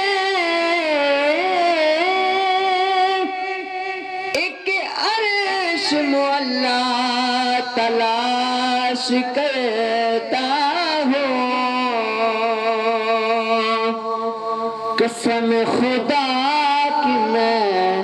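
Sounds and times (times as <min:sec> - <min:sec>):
man chanting into a microphone: 0:00.0 - 0:18.0.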